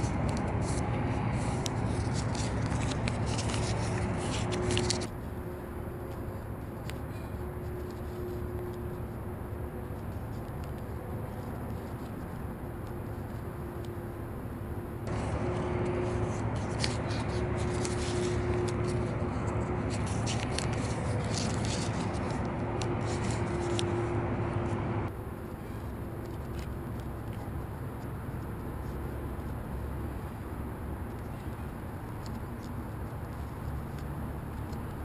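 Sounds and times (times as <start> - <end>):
paper folding crackles: 0.0 - 14.2, 15.0 - 24.1, 25.1 - 35.0
low outdoor rumble: 0.0 - 35.0.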